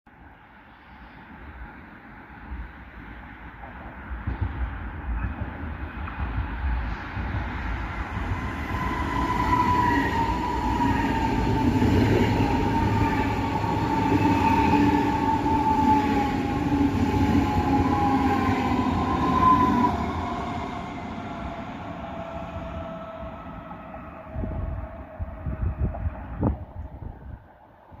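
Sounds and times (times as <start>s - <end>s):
train rumbling: 0.8s - 28.0s
wind buffeting microphone: 3.7s - 28.0s.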